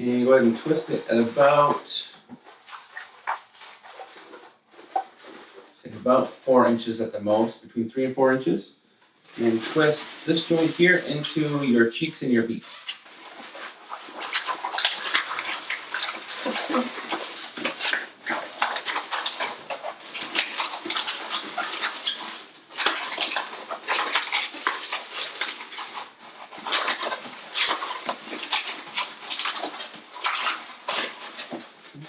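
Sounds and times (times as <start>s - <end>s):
balloons squeaking and rubbing: 0.0s - 6.5s, 9.2s - 32.0s.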